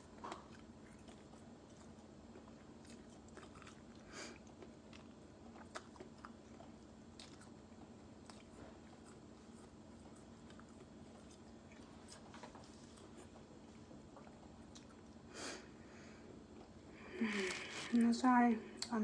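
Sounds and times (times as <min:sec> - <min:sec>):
person chewing: 0:00.0 - 0:15.3.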